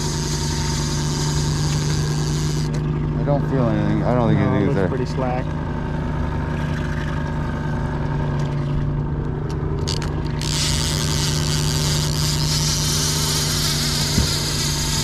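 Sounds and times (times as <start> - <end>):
outboard motor humming: 0.0 - 15.0.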